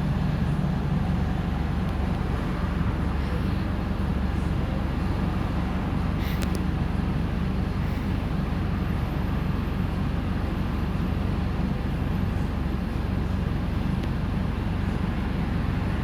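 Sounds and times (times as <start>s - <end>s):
bus diesel engine humming: 0.0s - 16.0s.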